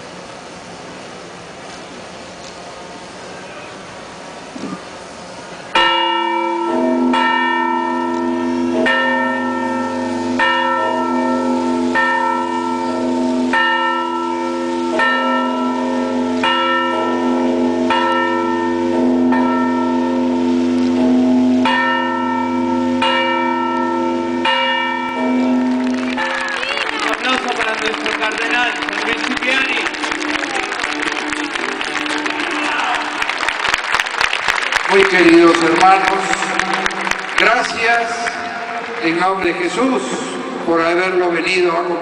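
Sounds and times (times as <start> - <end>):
church bells pealing: 5.7 - 33.4, 34.8 - 42.0.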